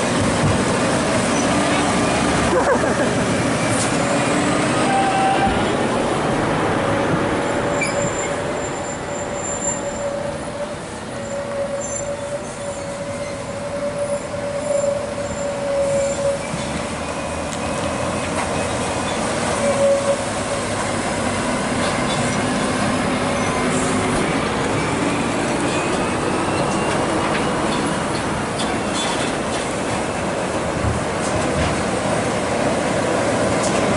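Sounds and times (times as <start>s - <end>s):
trucks diesel engines and tyres: 0.0s - 33.9s.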